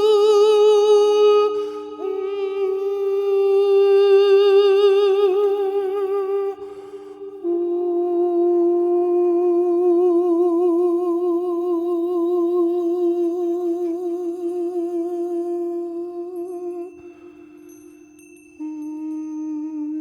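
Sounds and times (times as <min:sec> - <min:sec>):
sustained hummed vocal tone: 0:00.0 - 0:20.0.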